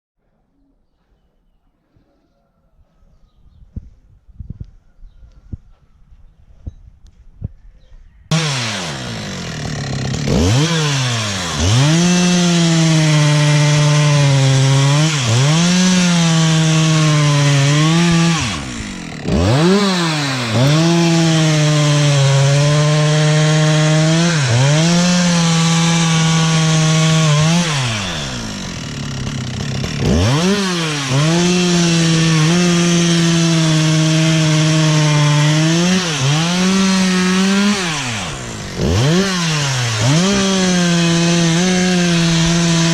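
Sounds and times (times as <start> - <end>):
chainsaw cutting log: 8.3 - 42.9.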